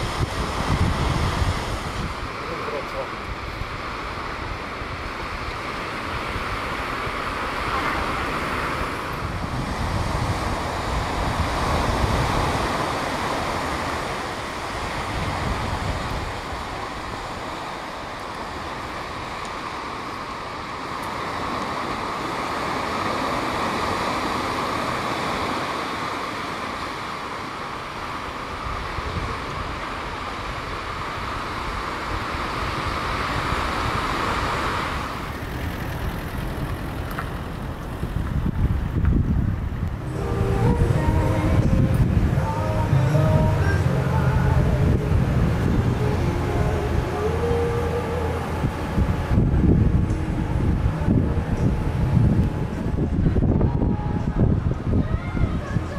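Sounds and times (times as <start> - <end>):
wind buffeting microphone: 0.0 - 20.0, 28.6 - 55.9
steady outdoor rushing noise: 0.0 - 55.9.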